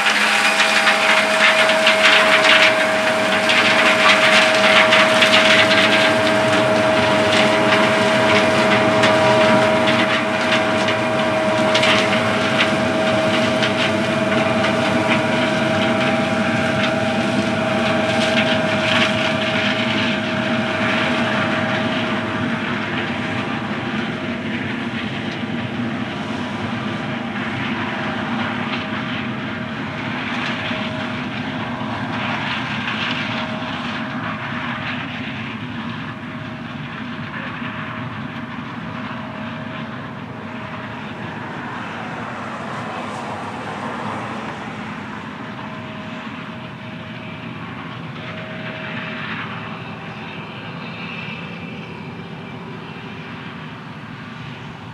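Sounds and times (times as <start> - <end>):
combine harvester engine drone: 0.0 - 54.9
high machine whine: 0.0 - 54.9.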